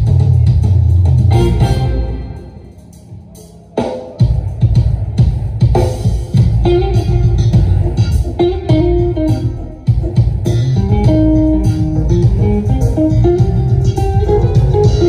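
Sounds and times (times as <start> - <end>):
electric guitar music: 0.0 - 3.2, 5.9 - 15.0
heavy booming bass: 0.0 - 3.4, 4.2 - 15.0.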